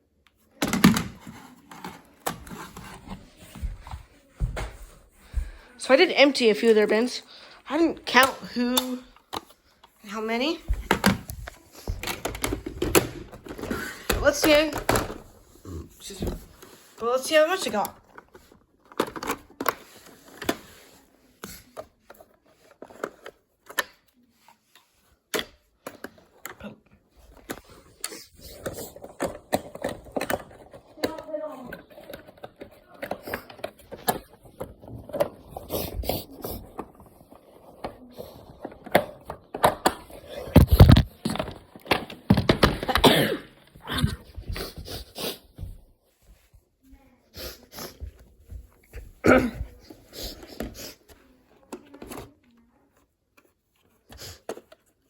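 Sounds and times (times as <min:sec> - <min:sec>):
plastic clicks and scrapes: 0:00.3 - 0:04.0, 0:06.6 - 0:43.0, 0:49.9 - 0:55.0.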